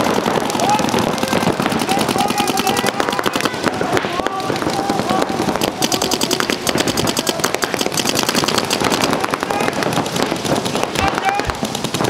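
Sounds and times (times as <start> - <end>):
paintball guns firing: 0.0 - 12.0.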